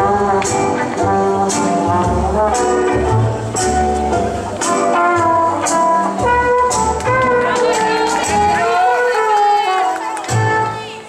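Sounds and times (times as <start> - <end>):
foxtrot dance music: 0.0 - 11.0.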